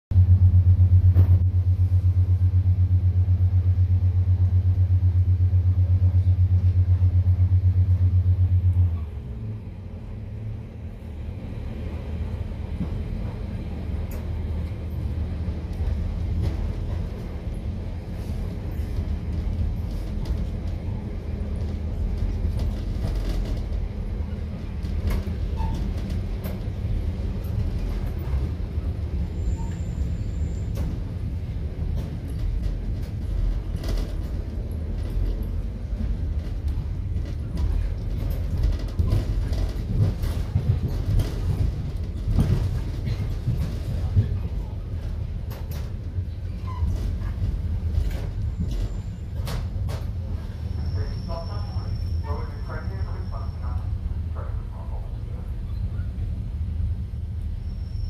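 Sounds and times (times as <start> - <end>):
train engine drone: 0.1 - 58.0
train rumbling along track: 0.1 - 58.0.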